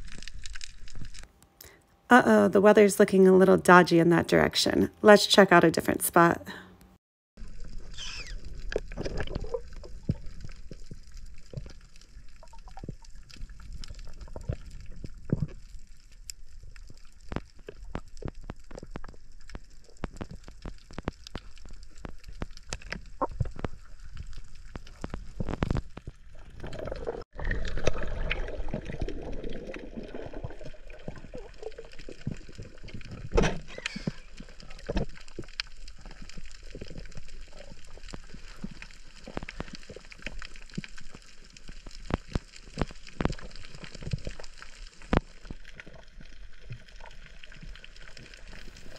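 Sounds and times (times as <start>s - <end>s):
underwater rumble of water: 0.0s - 1.3s, 7.4s - 48.9s
underwater clicks and crackles: 0.0s - 1.8s, 6.8s - 48.9s.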